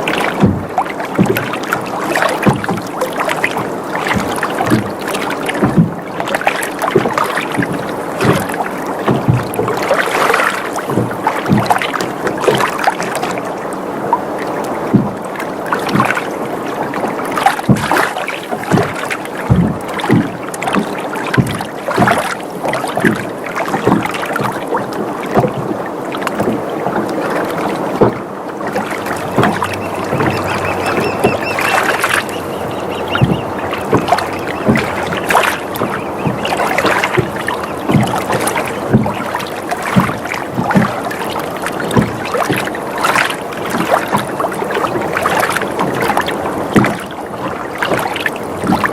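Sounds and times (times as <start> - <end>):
boat knocking and creaking: 0.0 - 48.9
water lapping against boat hull: 0.0 - 48.9.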